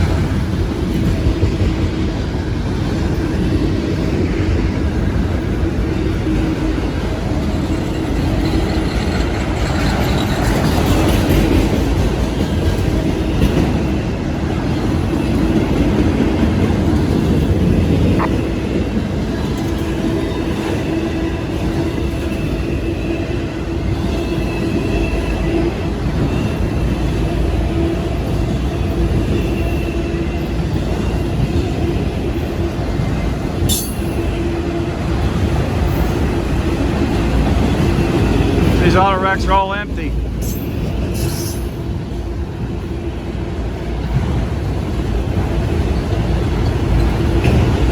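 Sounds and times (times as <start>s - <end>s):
train wheels rumbling and clattering: 0.0s - 39.0s, 40.1s - 47.9s.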